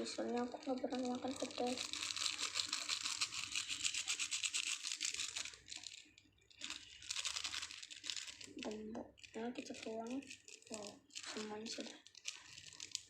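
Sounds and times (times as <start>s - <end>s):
plastic sachets crinkling: 0.0s - 13.0s.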